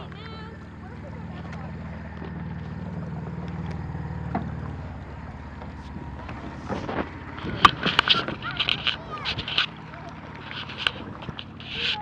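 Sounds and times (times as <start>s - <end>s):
wind rumble on microphone: 1.5s - 12.0s.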